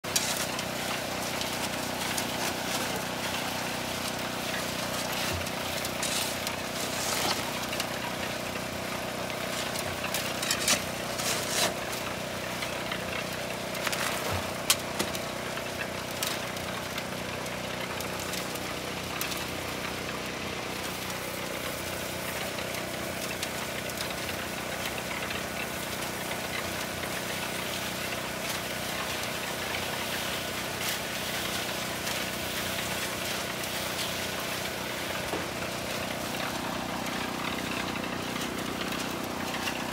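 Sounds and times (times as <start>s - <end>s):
concrete tumbling in mixer: 0.0s - 39.9s
generator engine running: 0.0s - 39.9s.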